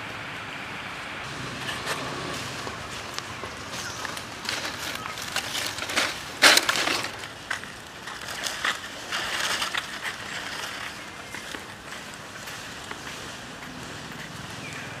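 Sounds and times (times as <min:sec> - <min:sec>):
dry leaves crunching and rustling: 0:00.4 - 0:15.0.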